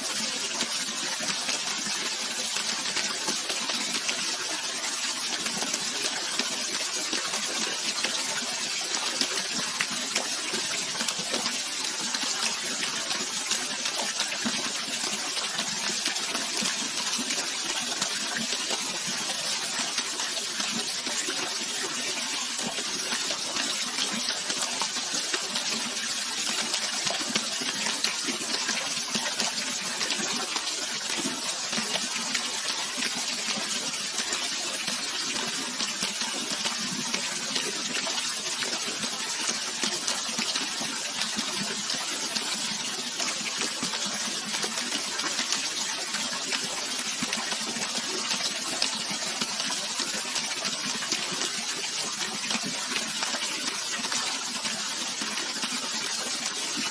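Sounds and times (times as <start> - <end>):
running water rushing and splashing: 0.0 - 56.9.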